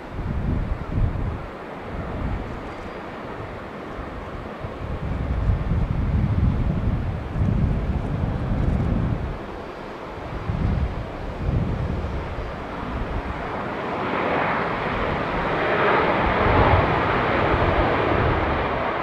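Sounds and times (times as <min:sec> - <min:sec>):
jet engines roaring: 0:00.0 - 0:19.0
wind rumbling on microphone: 0:00.0 - 0:19.0.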